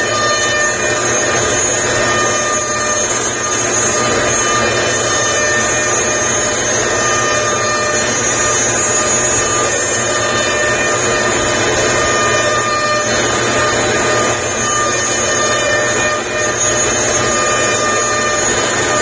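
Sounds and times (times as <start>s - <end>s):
motor and cutting noise: 0.0s - 19.0s
router spindles whining: 0.0s - 19.0s.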